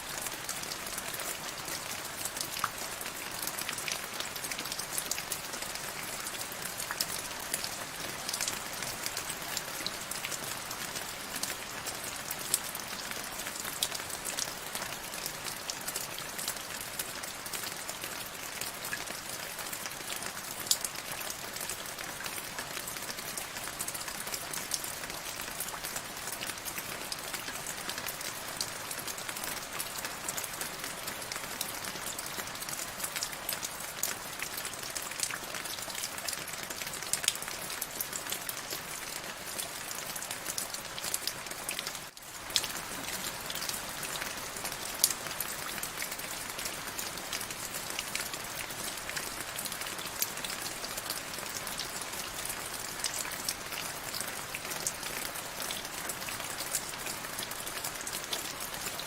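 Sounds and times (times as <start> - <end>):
raindrops ticking and pattering: 0.0 - 59.0.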